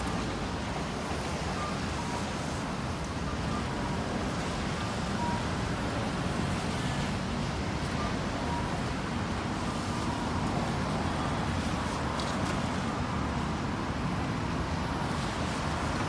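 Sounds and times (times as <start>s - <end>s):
road traffic rushing by: 0.0s - 16.0s.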